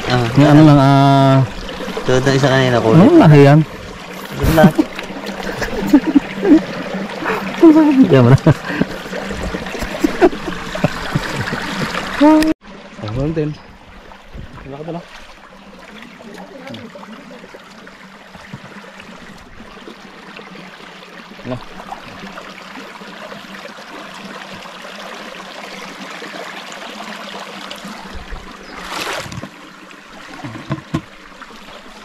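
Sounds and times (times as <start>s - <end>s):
river water trickling: 0.0s - 32.0s.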